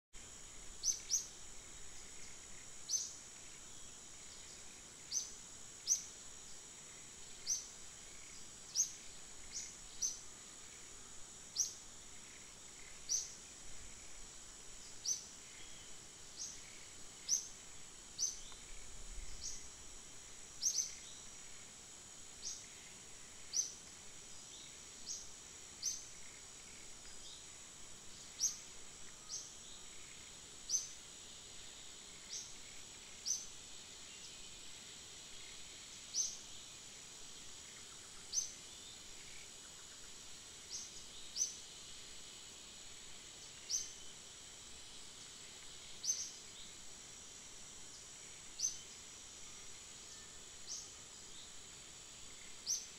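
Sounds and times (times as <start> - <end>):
high-pitched insect drone: 0.2 - 52.9.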